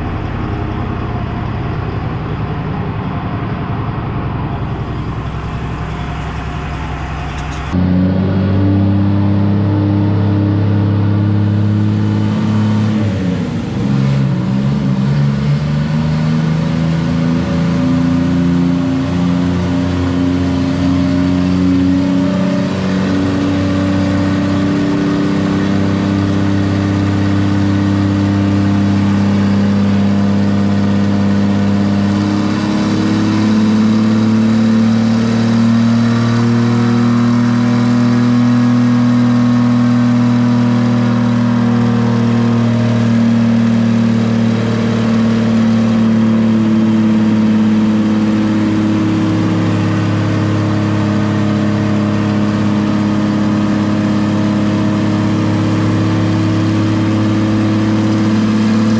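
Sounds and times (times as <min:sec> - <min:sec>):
engine running on dyno: 0:00.0 - 0:58.9.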